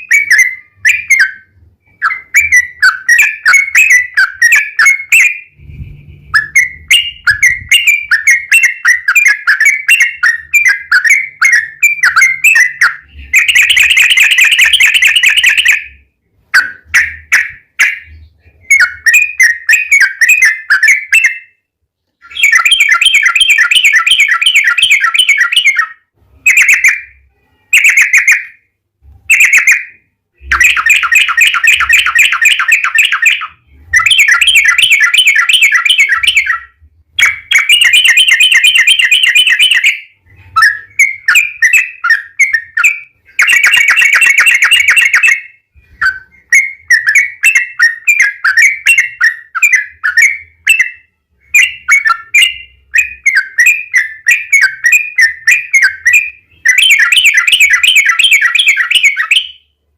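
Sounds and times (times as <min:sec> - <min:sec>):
bird rapid chattering song: 0:00.0 - 0:28.6, 0:29.3 - 0:59.7.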